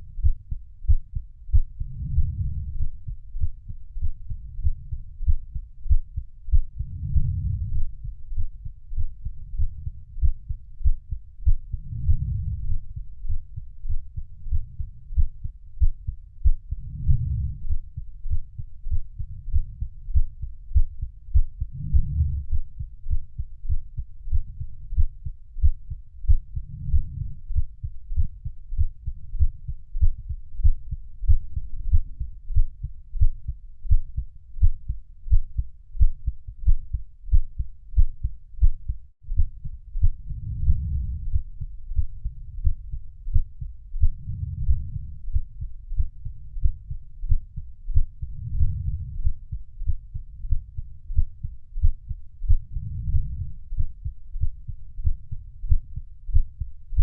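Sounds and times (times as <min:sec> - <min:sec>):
muffled heartbeat: 0:00.0 - 0:57.0.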